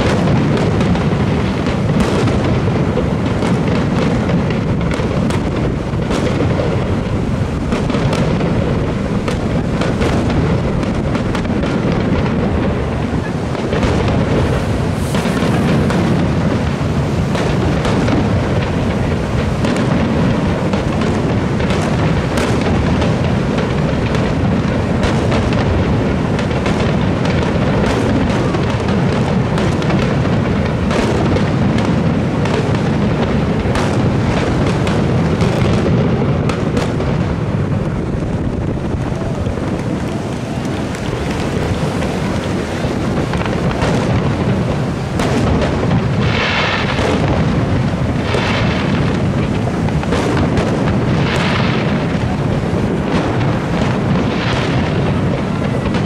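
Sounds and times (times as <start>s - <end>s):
continuous rumble: 0.0s - 56.0s
fireworks bursting with booms: 0.0s - 56.0s.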